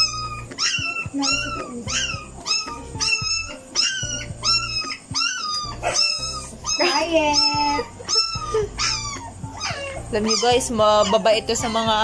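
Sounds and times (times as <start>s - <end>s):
puppy crying: 0.0s - 12.0s.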